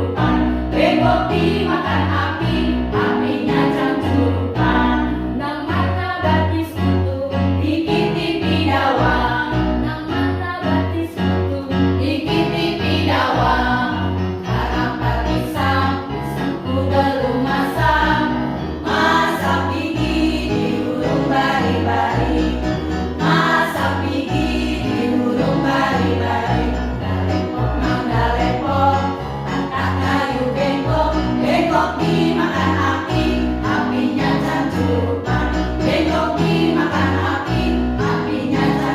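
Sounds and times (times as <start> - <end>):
choir singing in parts: 0.0 - 6.5, 7.6 - 9.9, 12.0 - 38.9.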